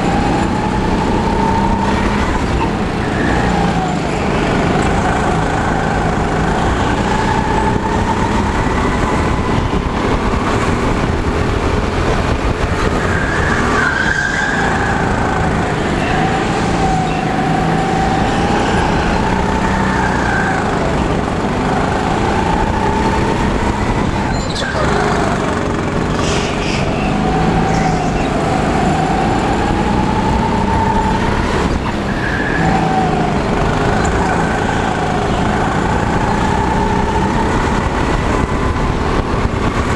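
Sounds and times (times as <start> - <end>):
go-kart motor: 0.0 - 39.9.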